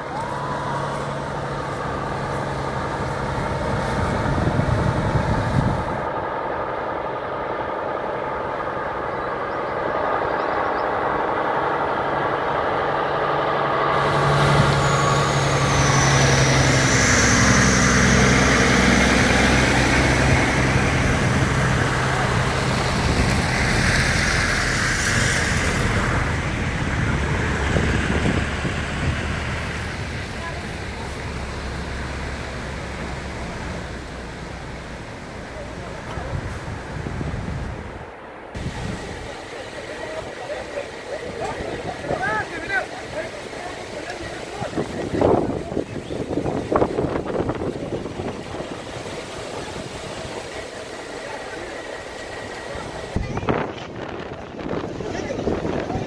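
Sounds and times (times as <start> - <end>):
water rushing and spraying: 0.0 - 6.2, 11.0 - 56.0
truck engines running: 0.0 - 56.0.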